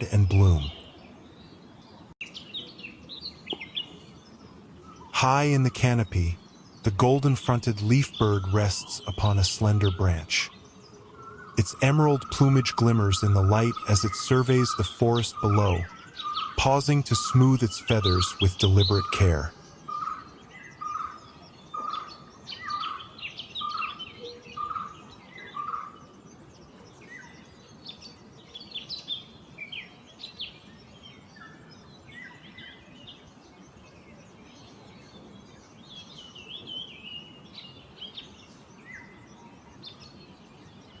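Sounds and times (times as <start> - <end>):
low repeated bird call: 0.0 - 41.0.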